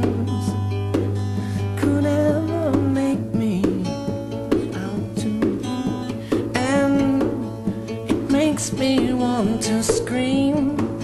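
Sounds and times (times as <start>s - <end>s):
song with guitar and singing: 0.0s - 11.0s.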